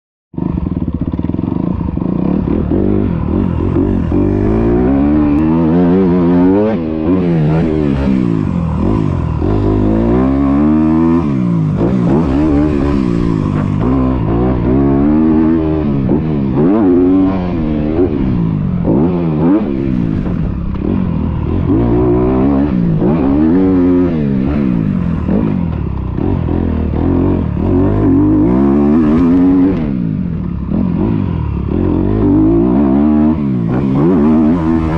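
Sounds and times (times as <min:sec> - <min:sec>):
dirt bike engine revving: 0:00.4 - 0:34.9.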